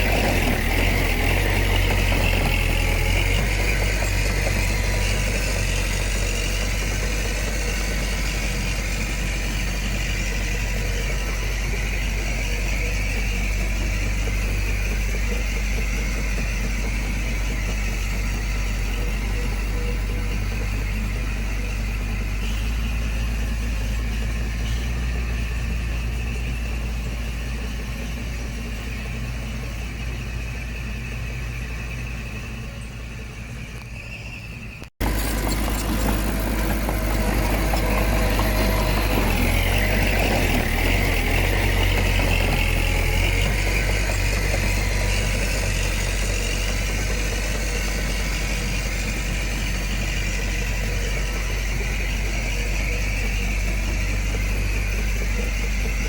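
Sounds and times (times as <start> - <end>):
heavy machinery diesel engine: 0.0 - 56.0
machinery clatter: 0.0 - 56.0.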